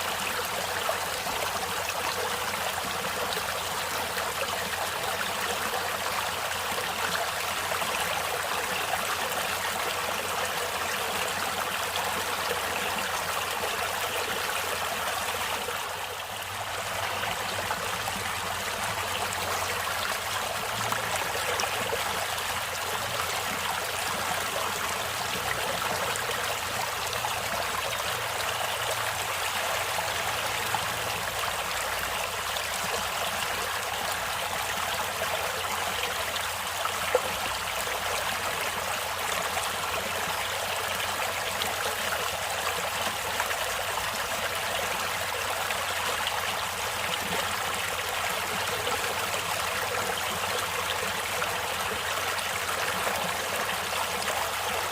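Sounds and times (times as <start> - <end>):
stream water rushing: 0.0 - 54.9.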